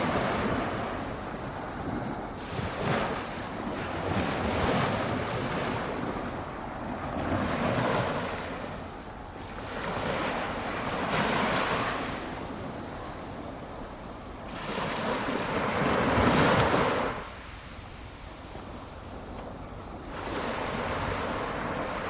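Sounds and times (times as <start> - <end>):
small waves breaking on shore: 0.0 - 22.0.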